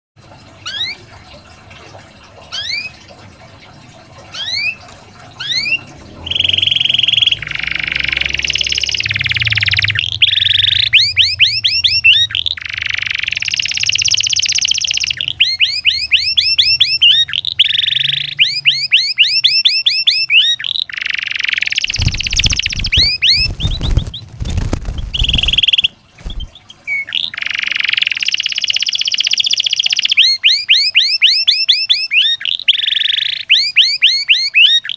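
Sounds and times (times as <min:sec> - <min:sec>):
canary singing: 0:00.6 - 0:01.0, 0:02.5 - 0:03.0, 0:04.3 - 0:34.9.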